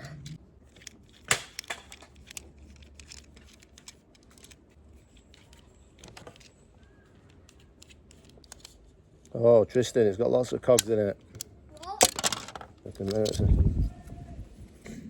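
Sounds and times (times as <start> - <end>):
plastic toy parts clicking: 0.6 - 10.0, 10.6 - 13.5.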